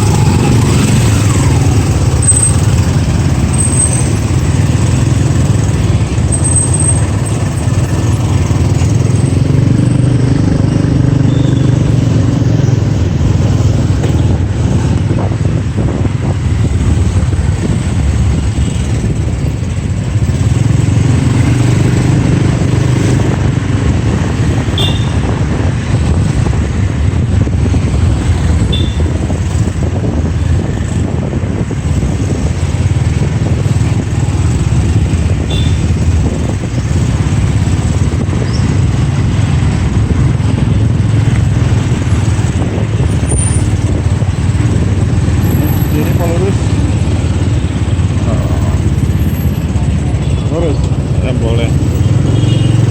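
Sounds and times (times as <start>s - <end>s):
wind rush: 0.0s - 11.1s, 11.8s - 50.2s
motorbike engine and road rumble: 0.0s - 52.9s.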